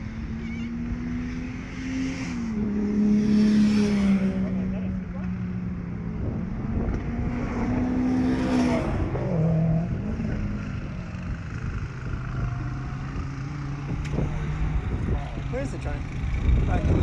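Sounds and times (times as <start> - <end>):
race cars on a circuit: 0.0 - 17.0.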